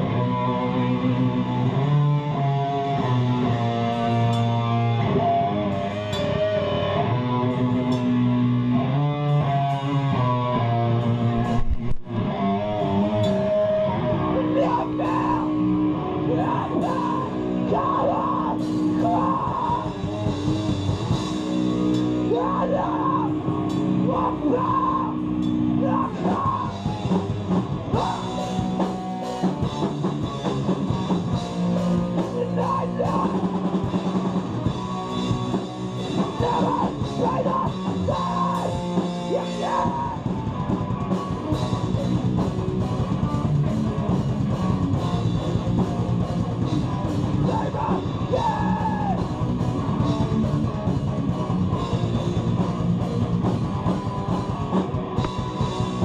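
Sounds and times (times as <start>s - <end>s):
hardcore band playing live: 0.0s - 56.0s.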